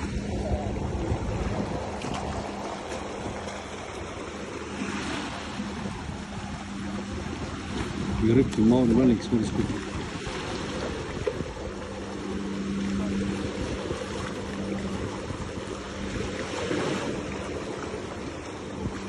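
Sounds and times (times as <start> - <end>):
low motor hum: 0.0 - 19.0
water: 0.0 - 19.0
wind: 0.0 - 19.0.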